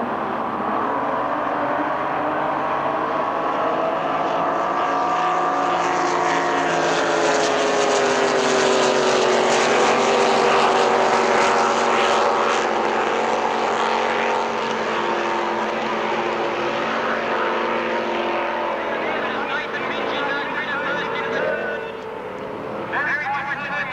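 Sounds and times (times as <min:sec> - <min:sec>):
powerboat engine running hard: 0:00.0 - 0:23.9.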